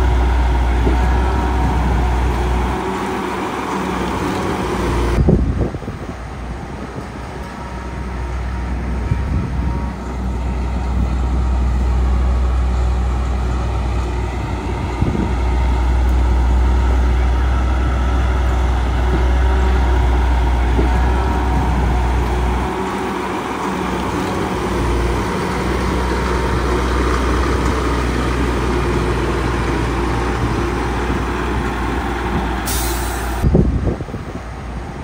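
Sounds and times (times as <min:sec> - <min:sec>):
diesel construction machinery running: 0:00.0 - 0:35.0.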